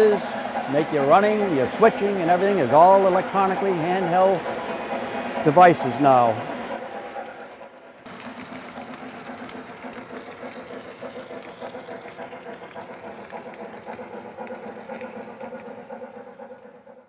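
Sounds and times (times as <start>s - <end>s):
electric motor hum: 0.0s - 17.0s
small clicks of model trains: 0.0s - 17.0s.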